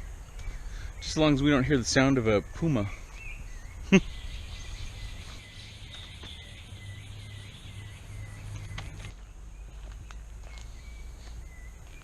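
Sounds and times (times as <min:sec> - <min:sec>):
insects chirring hiss: 0:00.0 - 0:12.0.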